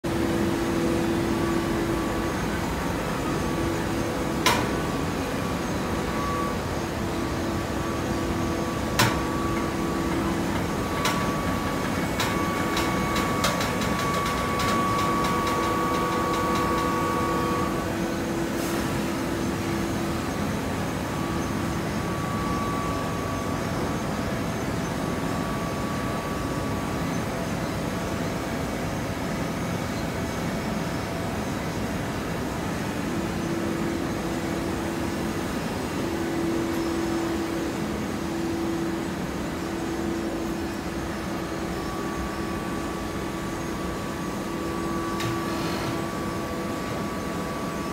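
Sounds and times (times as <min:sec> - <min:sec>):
baler mechanical hum: 0:00.0 - 0:47.9.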